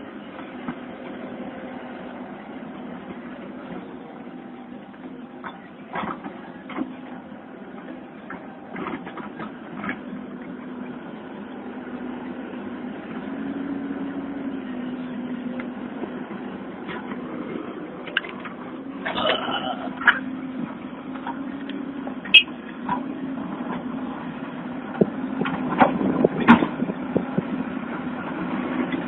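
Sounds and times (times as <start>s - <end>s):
engine humming: 0.0s - 29.0s.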